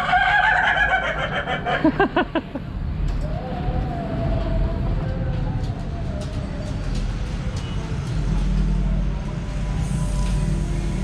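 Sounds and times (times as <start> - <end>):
low rumble of outdoor noise: 0.0 - 11.0.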